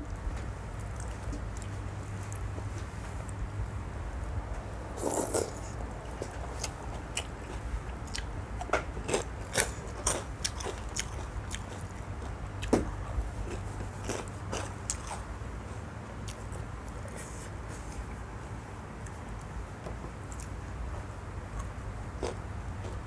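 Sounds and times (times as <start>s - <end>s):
crunching and chewing: 0.0s - 3.4s, 5.0s - 18.2s, 18.9s - 20.6s, 21.5s - 23.0s
steady low hum: 0.0s - 23.0s.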